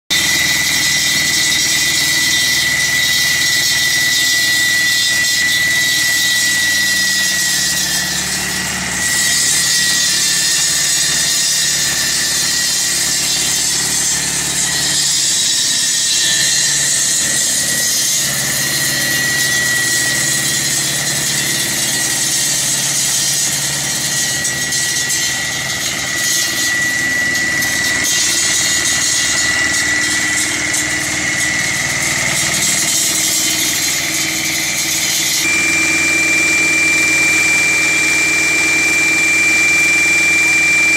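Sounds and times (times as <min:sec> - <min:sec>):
concrete saw engine drone: 0:00.1 - 0:40.9
saw blade grinding concrete: 0:00.1 - 0:40.9.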